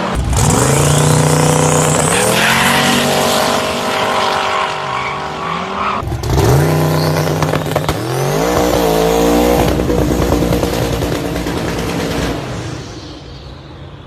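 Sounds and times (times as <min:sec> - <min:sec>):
car engine revving hard: 0:00.0 - 0:12.8.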